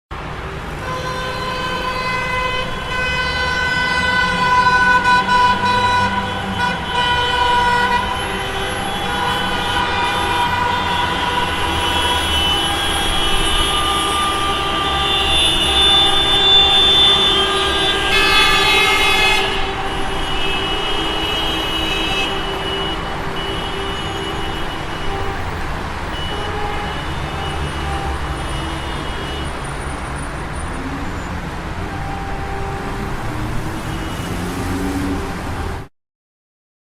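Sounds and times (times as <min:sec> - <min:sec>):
car horns honking: 0:00.6 - 0:35.9.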